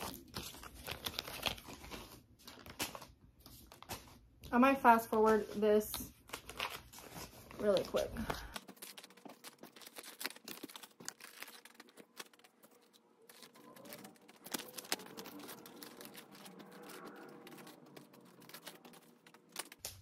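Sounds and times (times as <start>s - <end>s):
paper bills rustling: 0.0s - 20.0s.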